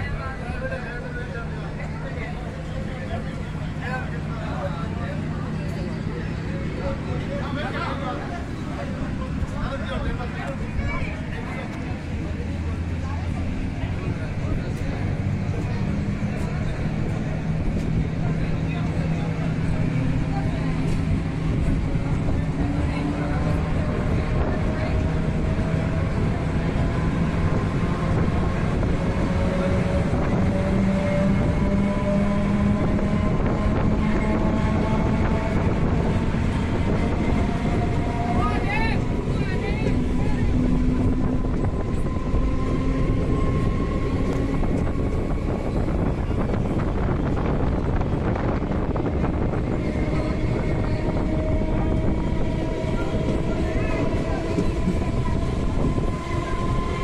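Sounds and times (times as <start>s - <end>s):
train wheels rumbling: 0.0s - 57.0s
wind: 0.0s - 57.0s.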